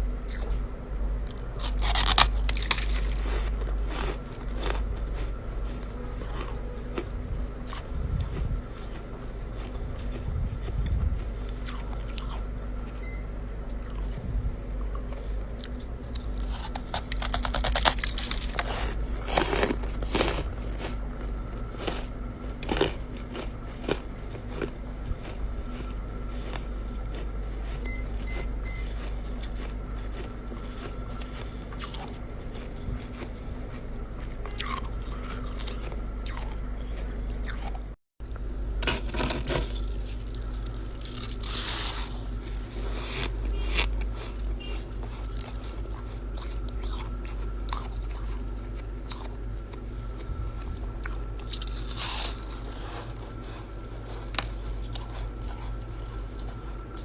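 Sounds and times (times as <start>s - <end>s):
steady low hum: 0.0s - 57.0s
person chewing ice: 0.3s - 13.1s, 13.7s - 57.0s.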